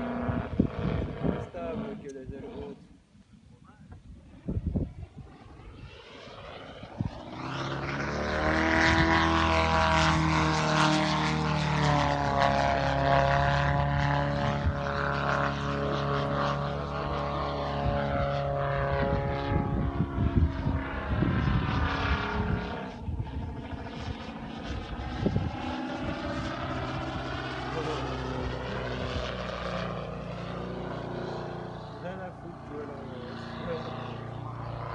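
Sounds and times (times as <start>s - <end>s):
model plane propeller drone: 0.0s - 34.9s.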